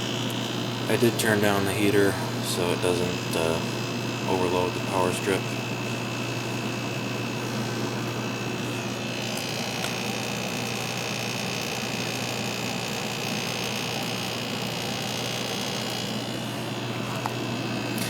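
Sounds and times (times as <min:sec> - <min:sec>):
window air conditioner humming: 0:00.0 - 0:18.0.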